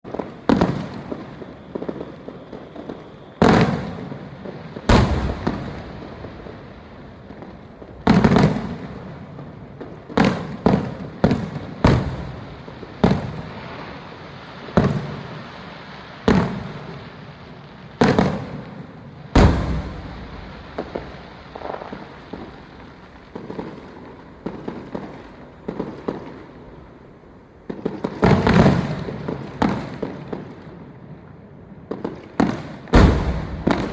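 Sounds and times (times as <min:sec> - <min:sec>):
fireworks booming: 0:00.0 - 0:33.9.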